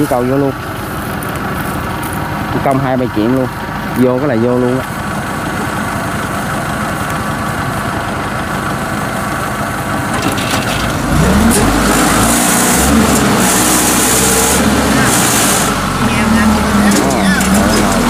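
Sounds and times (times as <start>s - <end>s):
combine harvester engine revving: 0.0s - 18.0s.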